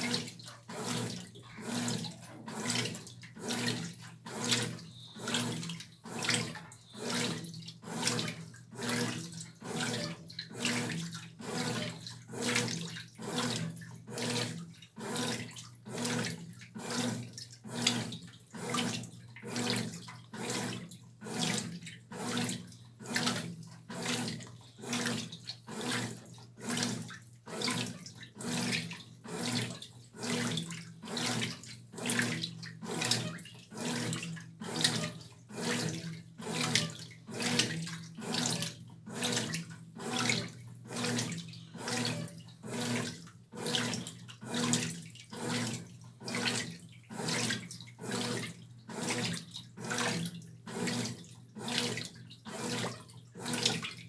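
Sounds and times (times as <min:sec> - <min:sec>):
washing machine motor hum: 0:00.0 - 0:54.0
washing machine water sloshing: 0:00.0 - 0:54.0.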